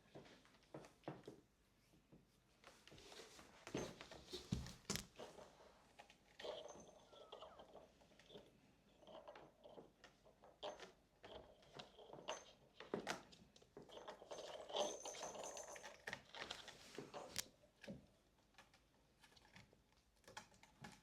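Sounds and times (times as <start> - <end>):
kittens' paws tapping and scrabbling: 0.1 - 21.0.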